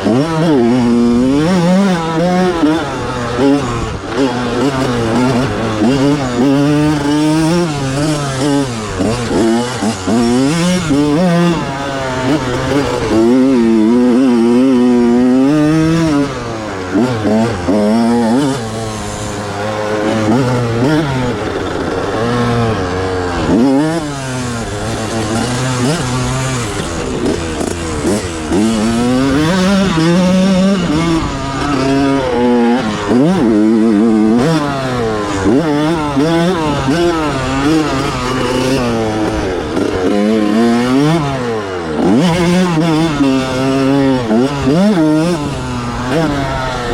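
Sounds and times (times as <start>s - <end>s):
two-stroke engine revving: 0.0s - 46.9s.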